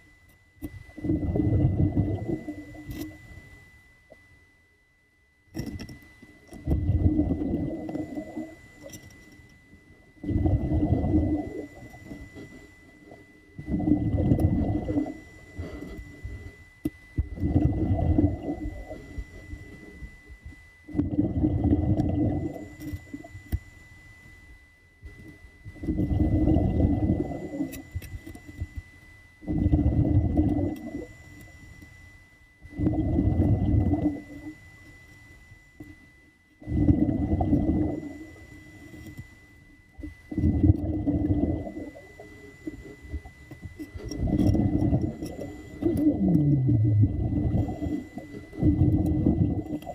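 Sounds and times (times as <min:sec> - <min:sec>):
faint high whine: 0:00.0 - 0:49.9.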